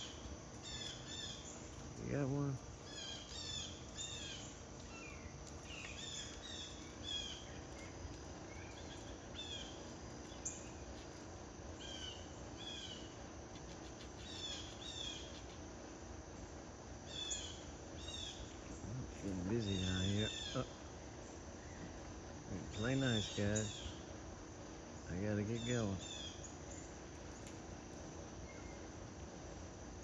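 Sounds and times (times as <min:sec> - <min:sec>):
small birds chirping: 0:00.0 - 0:15.7, 0:16.3 - 0:29.2
steady low background hum: 0:00.0 - 0:30.0.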